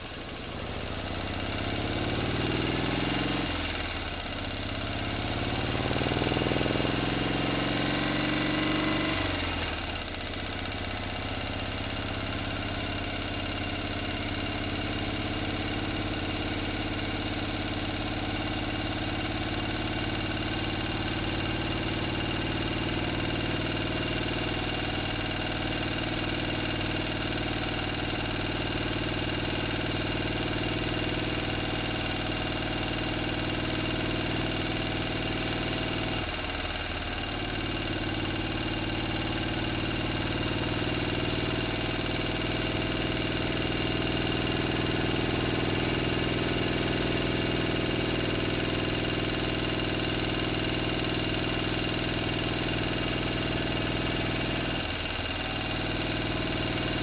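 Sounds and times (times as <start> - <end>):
engine revving and idling: 0.0 - 57.0.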